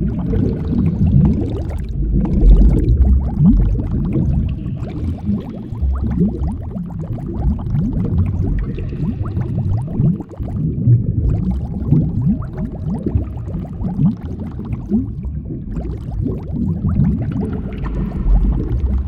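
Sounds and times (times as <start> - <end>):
water bubbling and gurgling: 0.0 - 19.0.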